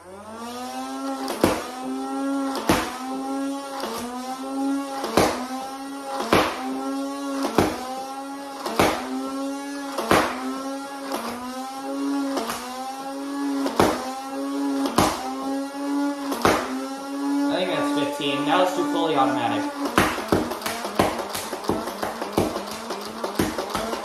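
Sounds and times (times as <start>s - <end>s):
flywheels humming: 0.0s - 24.0s.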